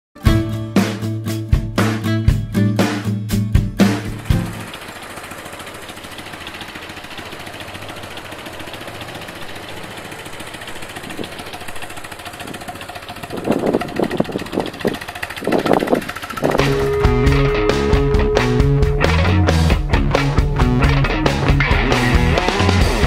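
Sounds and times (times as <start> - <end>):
motorcycle engine idling: 3.8 - 23.0
motorcycle engine revving: 3.8 - 23.0.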